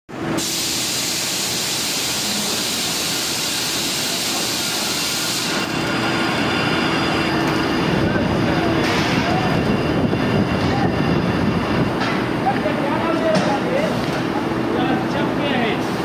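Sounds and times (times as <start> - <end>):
industrial machinery hissing: 0.1 - 16.0
deep rough machine running: 1.0 - 15.9.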